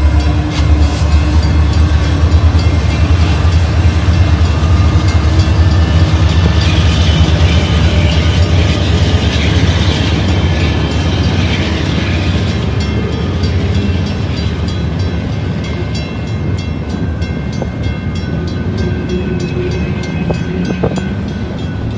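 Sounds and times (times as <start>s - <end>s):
crossing signal bell dinging: 0.0s - 21.9s
freight train cars rumbling past: 0.0s - 21.9s.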